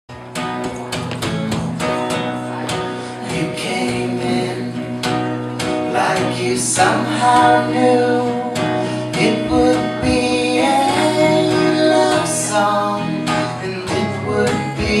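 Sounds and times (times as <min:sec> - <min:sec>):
acoustic guitar strumming: 0:00.1 - 0:15.0.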